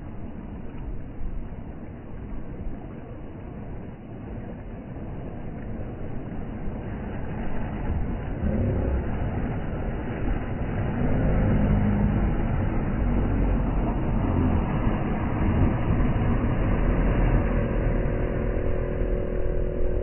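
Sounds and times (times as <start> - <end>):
boat engine humming: 0.0 - 20.0
small waves washing on beach: 0.0 - 20.0.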